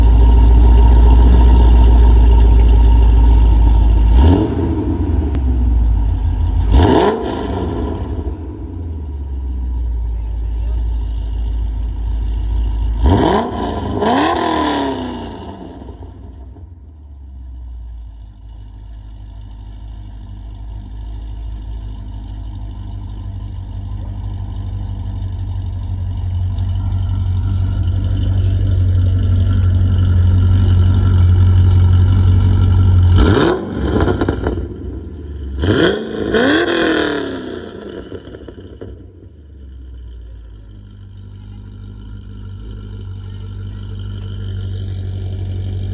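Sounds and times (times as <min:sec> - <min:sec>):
car engine revving: 0:00.0 - 0:17.0, 0:17.9 - 0:45.9.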